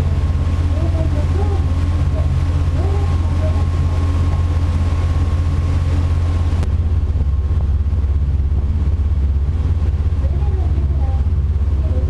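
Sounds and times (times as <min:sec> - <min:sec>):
boat engine drone: 0:00.0 - 0:12.0.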